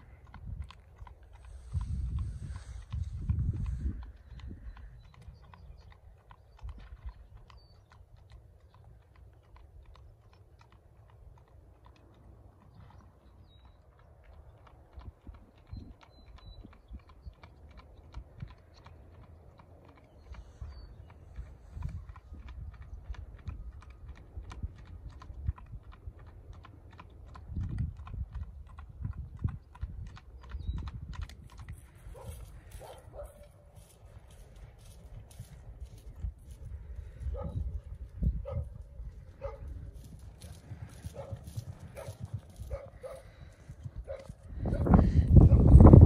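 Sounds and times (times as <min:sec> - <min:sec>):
horse hooves on pavement: 0:00.0 - 0:46.0.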